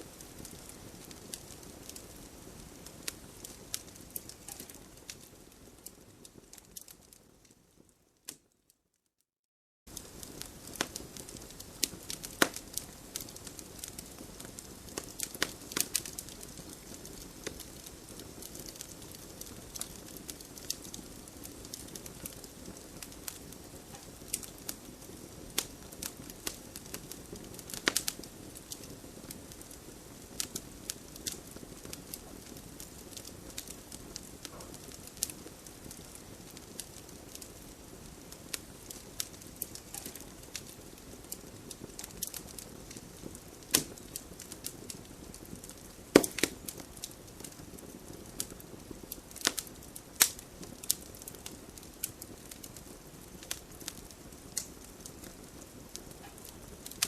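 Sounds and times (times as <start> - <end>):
campfire burning: 0.0 - 8.5, 9.9 - 57.0
crackles and pops of burning wood: 0.0 - 8.6, 9.9 - 57.0.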